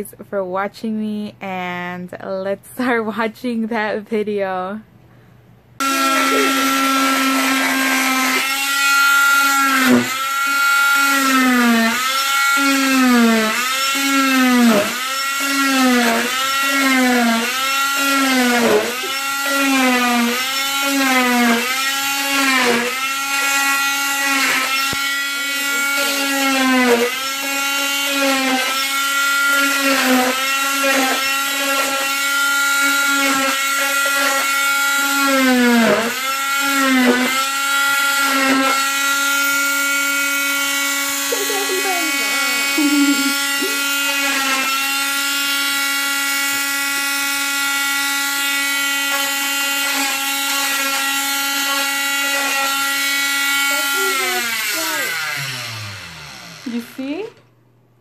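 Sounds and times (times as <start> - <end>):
cast saw whining: 5.8 - 57.4.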